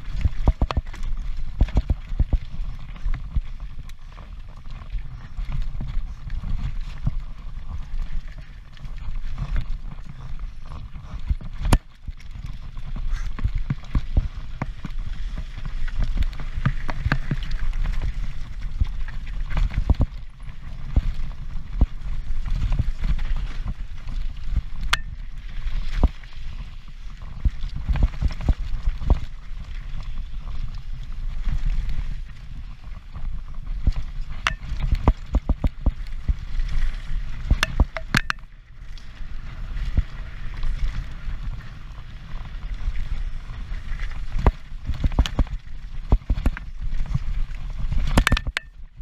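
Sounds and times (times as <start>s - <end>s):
mountain bike rattling: 0.0s - 49.0s
wind rumble on microphone: 0.0s - 49.0s.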